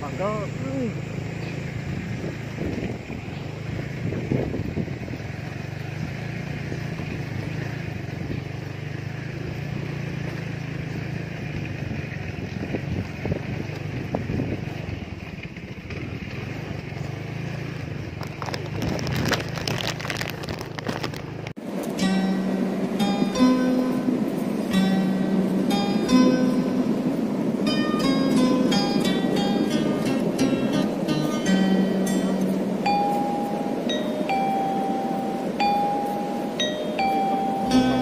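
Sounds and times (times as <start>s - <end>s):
motorcycle engine at low speed: 0.0s - 38.0s.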